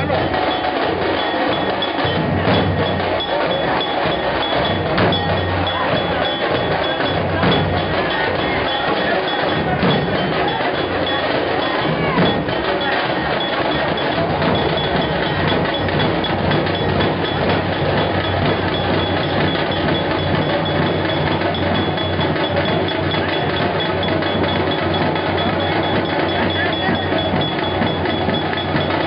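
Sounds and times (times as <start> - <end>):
crowd noise: 0.0 - 29.0
loud fast drumming: 0.0 - 29.0.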